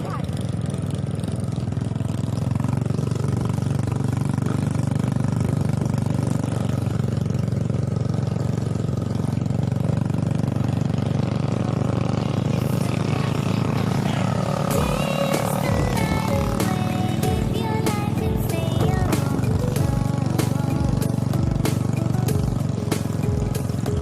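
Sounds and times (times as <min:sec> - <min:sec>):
vehicle engine running steadily: 0:00.0 - 0:24.0.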